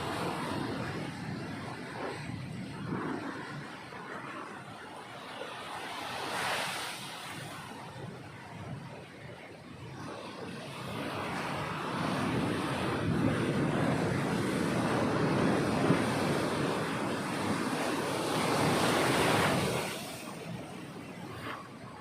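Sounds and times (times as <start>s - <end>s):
sea waves breaking on beach: 0.0s - 22.0s.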